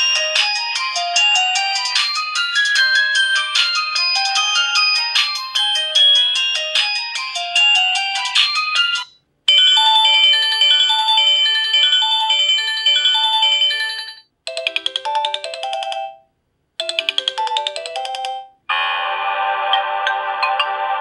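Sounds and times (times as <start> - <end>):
polyphonic ringtone melodies: 0.0 - 19.0, 19.7 - 20.9.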